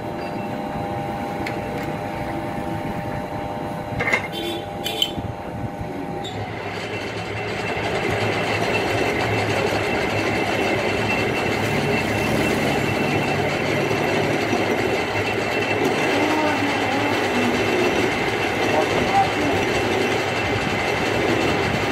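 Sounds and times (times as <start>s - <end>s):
metal lathe running: 0.0s - 21.9s.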